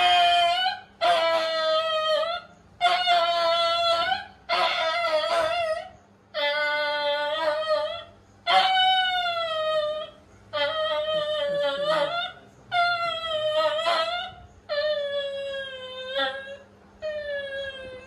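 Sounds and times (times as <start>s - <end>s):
dog howling in pain: 0.0s - 18.0s.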